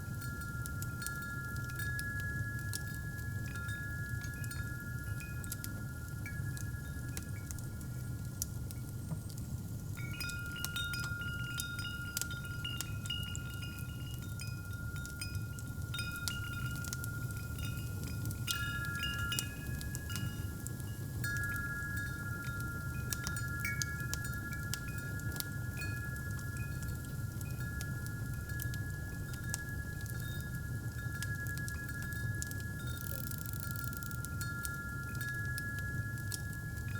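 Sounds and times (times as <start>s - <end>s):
wind chimes tinkling: 0.0s - 36.9s.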